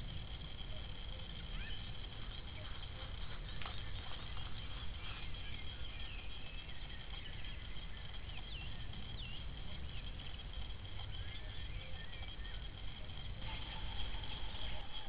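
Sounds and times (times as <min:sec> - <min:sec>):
bird chirps: 0:00.6 - 0:15.0.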